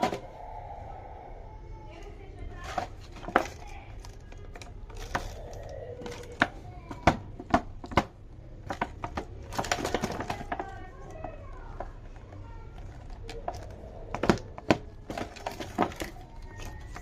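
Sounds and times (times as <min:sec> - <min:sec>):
toy packaging clicks and taps: 0:02.6 - 0:17.0.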